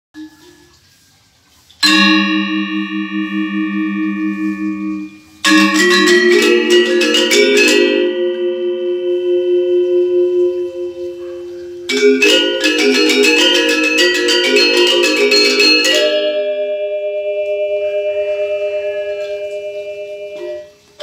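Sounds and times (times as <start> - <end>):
metallophones struck with mallets: 1.8 - 21.0.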